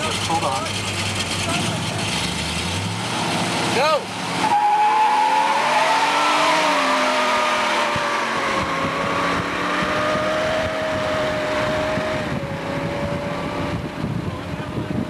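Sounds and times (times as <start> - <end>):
engines at full throttle: 0.0 - 15.0
wind and road noise: 0.0 - 15.0.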